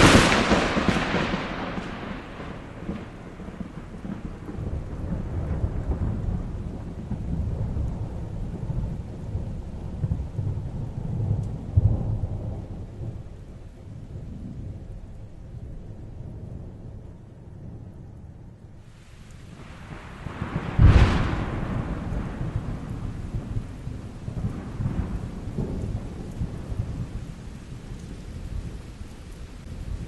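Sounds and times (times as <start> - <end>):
rain hissing: 0.0 - 15.4, 18.8 - 30.0
rolling thunder: 0.0 - 30.0.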